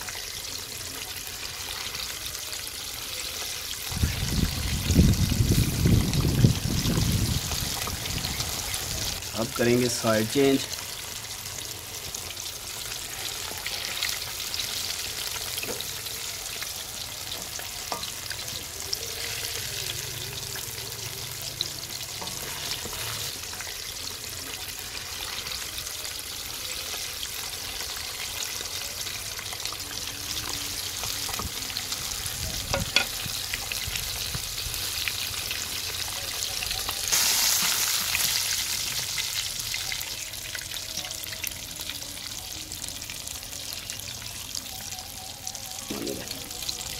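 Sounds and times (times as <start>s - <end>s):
fish deep-frying in oil: 0.0s - 46.9s.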